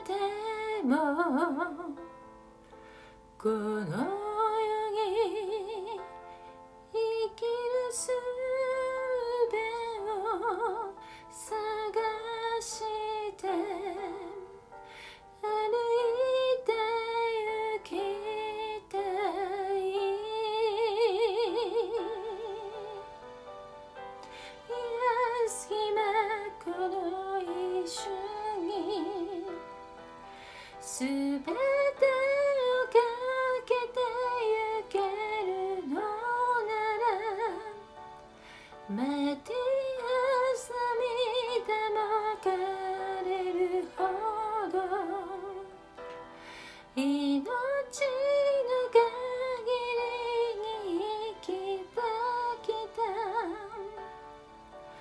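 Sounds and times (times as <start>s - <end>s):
woman singing slow song: 0.0s - 2.2s, 3.3s - 23.5s, 24.2s - 55.0s.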